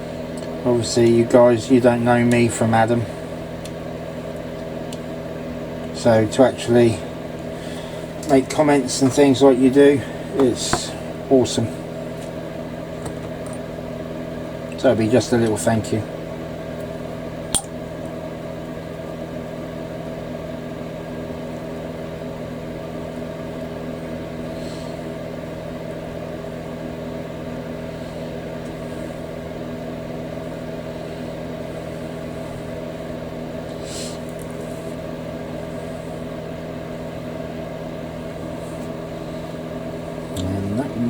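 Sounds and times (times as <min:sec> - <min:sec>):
steady machine hum: 0:00.0 - 0:41.0.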